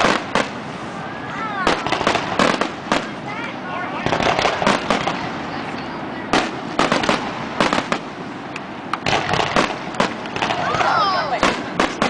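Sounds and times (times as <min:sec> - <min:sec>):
fireworks bangs and pops: 0:00.0 - 0:00.9, 0:01.6 - 0:12.0
noisy rumble: 0:00.0 - 0:12.0.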